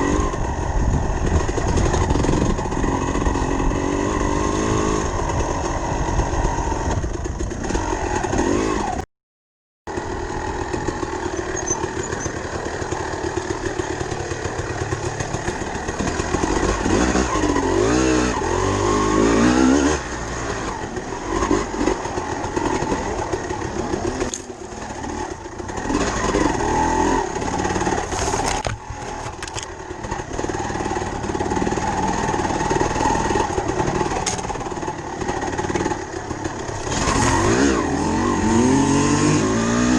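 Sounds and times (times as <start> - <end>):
dirt bike engine revving: 0.0 - 9.0, 9.9 - 39.9.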